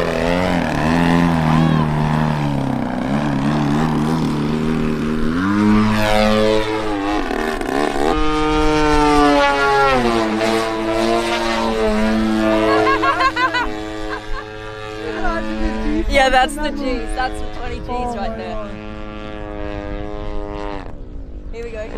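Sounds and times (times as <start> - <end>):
model aircraft motor whining: 0.0 - 21.9.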